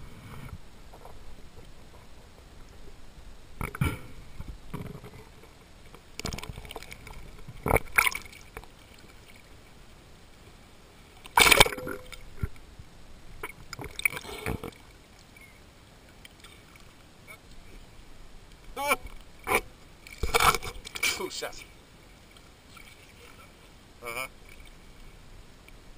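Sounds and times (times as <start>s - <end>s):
water splashing and gurgling: 0.0s - 18.0s, 18.7s - 25.2s.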